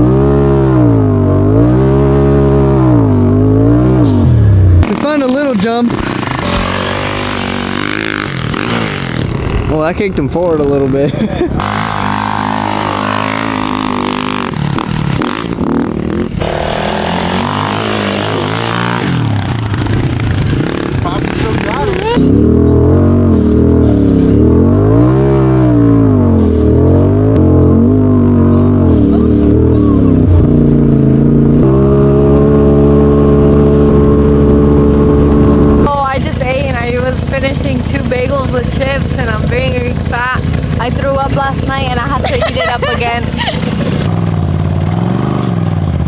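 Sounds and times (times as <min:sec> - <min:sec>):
off-road vehicle engine running: 0:00.0 - 0:46.0.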